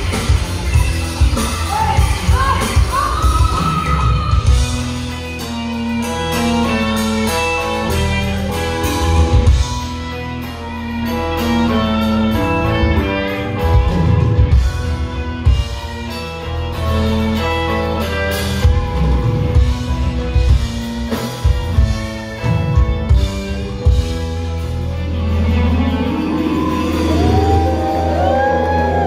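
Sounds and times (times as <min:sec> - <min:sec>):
live blues-rock band: 0:00.0 - 0:29.0.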